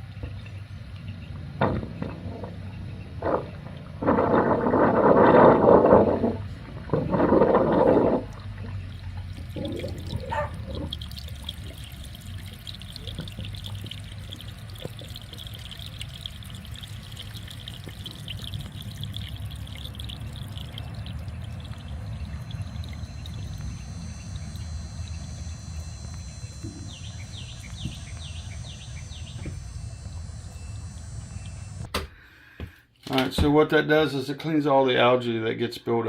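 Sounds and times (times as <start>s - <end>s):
water trickling through drain line: 0.0s - 31.9s.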